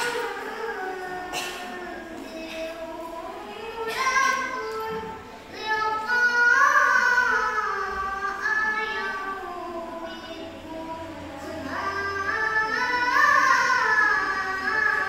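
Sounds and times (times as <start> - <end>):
girl reciting melodically: 0.0 - 15.0.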